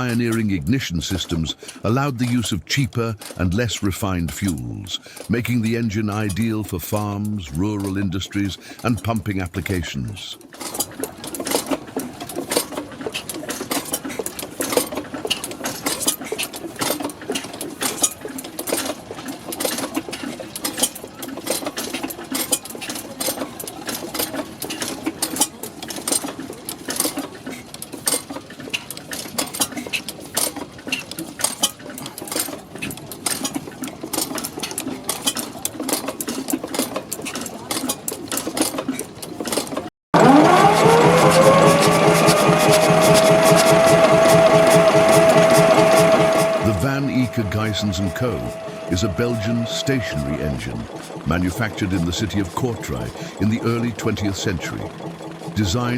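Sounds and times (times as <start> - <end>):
stationary engine clattering: 0.0 - 55.9.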